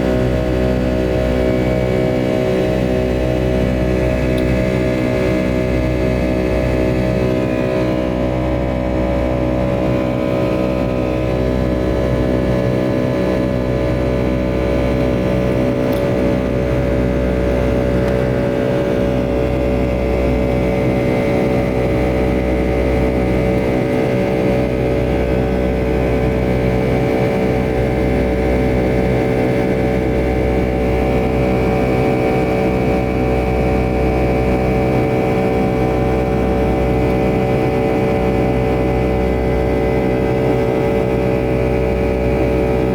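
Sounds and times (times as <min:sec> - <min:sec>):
jet engines droning: 0:00.0 - 0:42.9.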